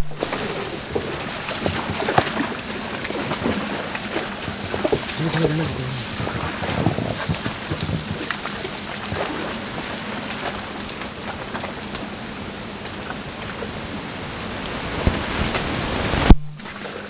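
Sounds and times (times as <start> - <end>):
faint crackles: 0.0 - 17.0
tall grass rustling: 0.0 - 17.0.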